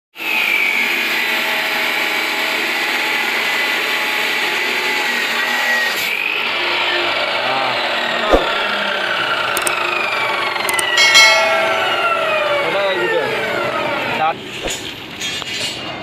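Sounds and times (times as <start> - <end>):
chop saw grinding steel: 0.5 - 15.7.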